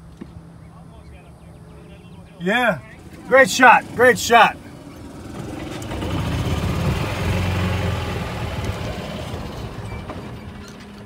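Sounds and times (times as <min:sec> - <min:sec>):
golf cart driving: 0:00.0 - 0:11.0.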